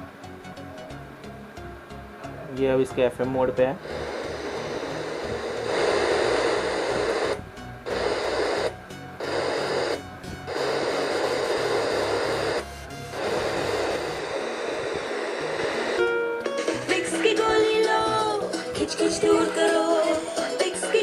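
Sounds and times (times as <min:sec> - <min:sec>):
radio static hiss: 0:02.3 - 0:21.0.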